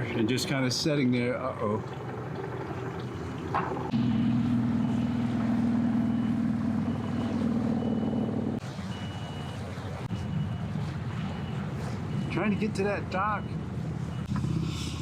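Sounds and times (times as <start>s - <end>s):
vehicle engine droning: 2.0s - 15.0s.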